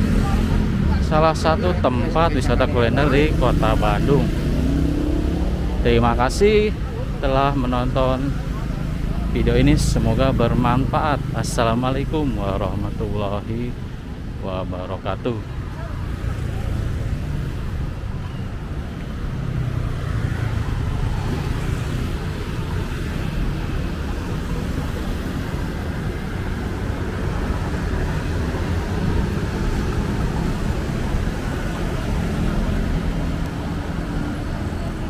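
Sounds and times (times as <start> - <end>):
car and motorbike engines passing: 0.0 - 35.0.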